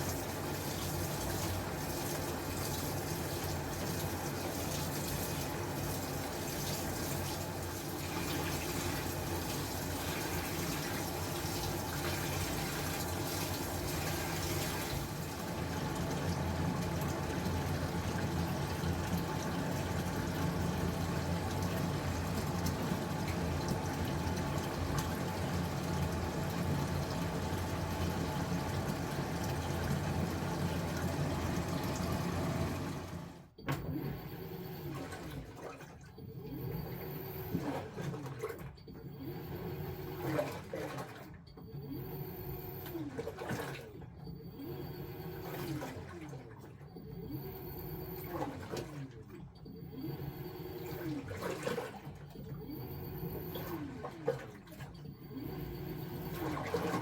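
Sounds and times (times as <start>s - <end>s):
washing machine motor strokes: 0.0s - 57.0s
water rushing into washer tub: 0.0s - 57.0s.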